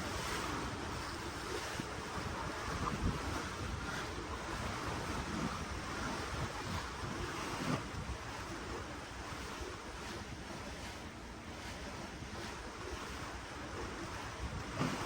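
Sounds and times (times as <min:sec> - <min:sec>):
wind on microphone: 0:00.0 - 0:10.8, 0:11.5 - 0:15.0
ocean water churning: 0:00.0 - 0:15.0.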